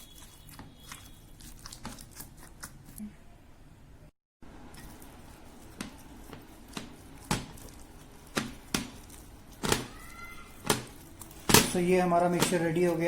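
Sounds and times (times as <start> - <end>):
mixture stirred by hand in bowl: 0.0 - 3.2, 4.5 - 13.0.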